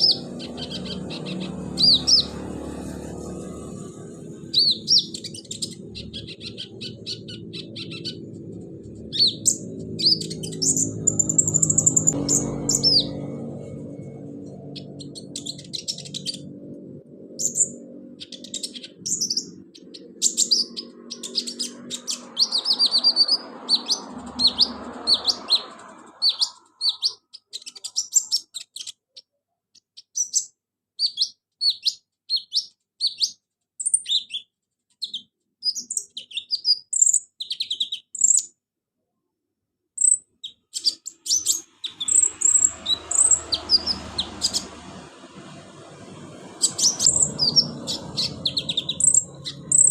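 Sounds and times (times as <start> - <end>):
bird chirping and twittering: 0.0 - 38.5, 40.0 - 49.9.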